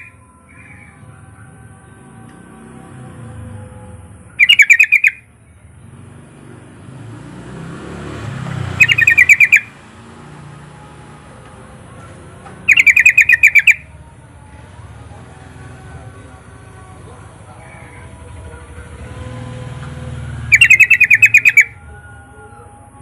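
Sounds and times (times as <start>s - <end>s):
bulbul singing: 0.0s - 23.0s.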